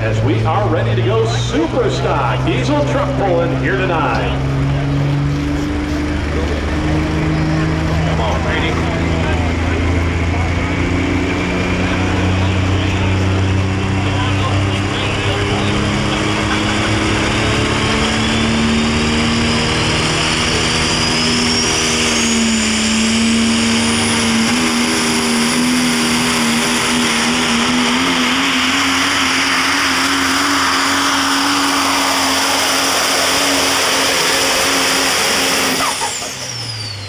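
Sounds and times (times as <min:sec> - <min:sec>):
diesel truck engine at high rpm: 0:00.0 - 0:37.0
high whine rising in pitch: 0:06.3 - 0:37.0.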